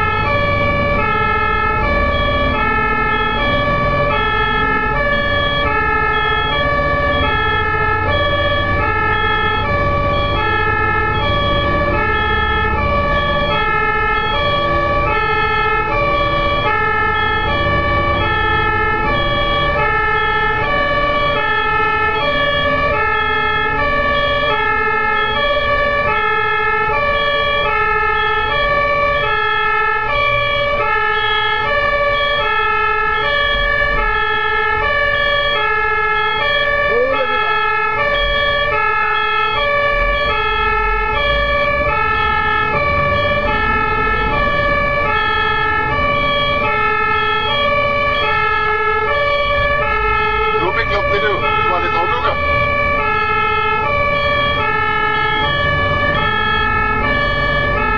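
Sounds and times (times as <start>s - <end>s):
ambulance siren two-tone: 0.0s - 57.9s
road traffic rumble: 0.0s - 57.9s.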